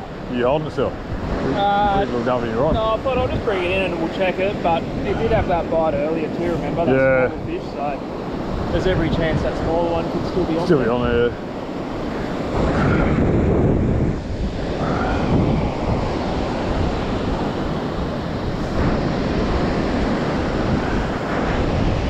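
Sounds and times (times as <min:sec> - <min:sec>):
surf washing onto a beach: 0:00.0 - 0:22.0
wind buffeting the microphone: 0:00.0 - 0:22.0.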